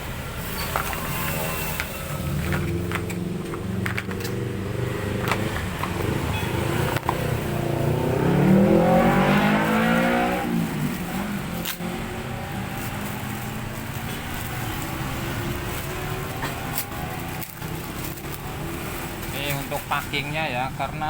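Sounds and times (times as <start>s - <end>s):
vehicle engine running: 0.2s - 21.0s
vehicle passing by: 0.9s - 21.0s.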